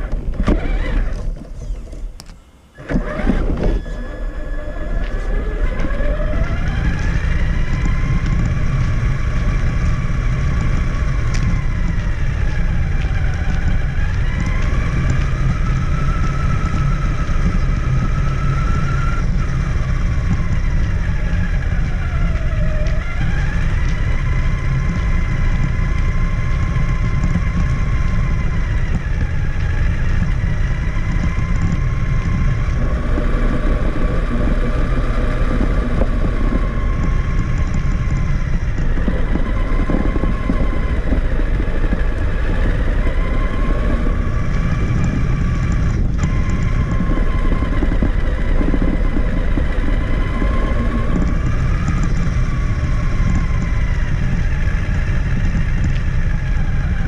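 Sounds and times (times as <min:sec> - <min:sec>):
electric motor and gears whining: 0:00.0 - 0:57.0
low rumble: 0:00.0 - 0:57.0.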